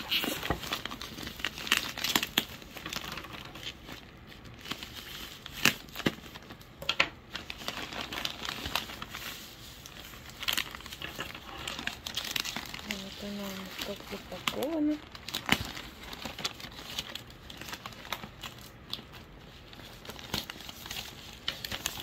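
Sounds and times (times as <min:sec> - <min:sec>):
bubble wrap crinkling: 0:00.0 - 0:22.0
paper wrapping rustling: 0:00.0 - 0:22.0.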